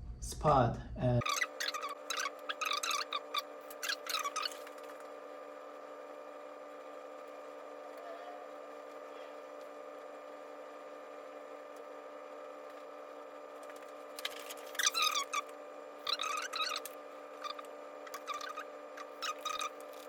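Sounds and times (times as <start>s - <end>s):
equipment hum with tones: 0.0s - 20.0s.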